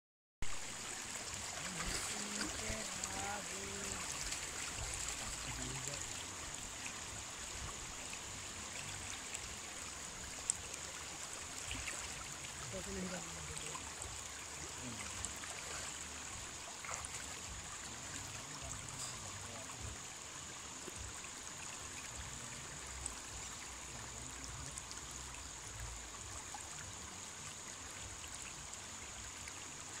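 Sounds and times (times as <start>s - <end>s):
river water flowing over shallows: 0.4s - 30.0s.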